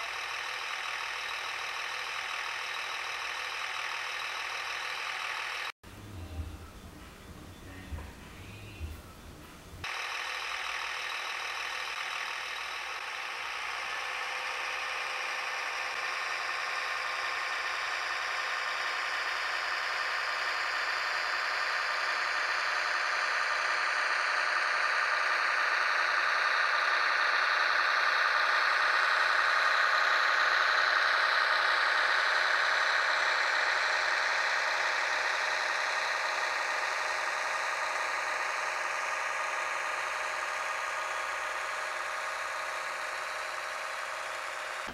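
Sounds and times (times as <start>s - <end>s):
model train rolling on track: 0.0s - 8.5s, 9.8s - 44.9s
diesel engine from small speaker: 0.0s - 44.9s.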